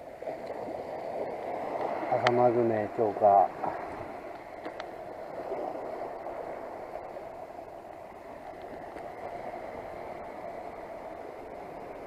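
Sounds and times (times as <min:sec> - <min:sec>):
rushing sea ambience: 0:00.0 - 0:12.0.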